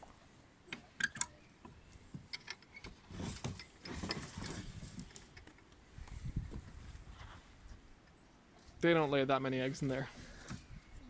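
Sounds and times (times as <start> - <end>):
rustling and shuffling: 1.6 - 11.0.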